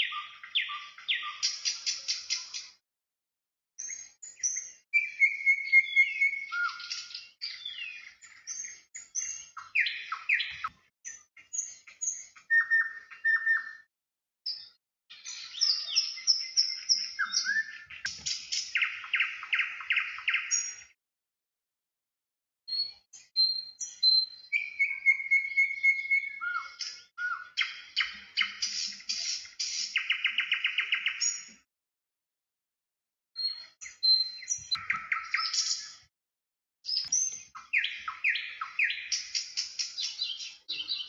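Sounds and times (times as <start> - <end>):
songbirds chirping and calling: 0.0 - 2.8, 3.8 - 13.9, 14.5 - 21.0, 22.7 - 31.6, 33.4 - 36.1, 36.9 - 41.0.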